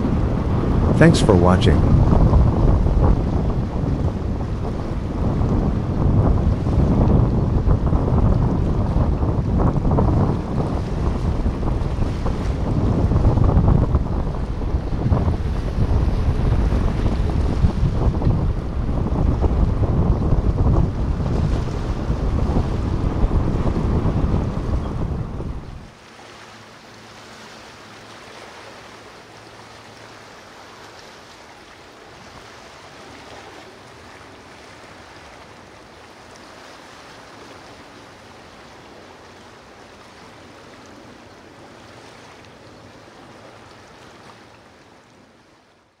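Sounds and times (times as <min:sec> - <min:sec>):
rushing water or surf: 0:00.0 - 0:46.0.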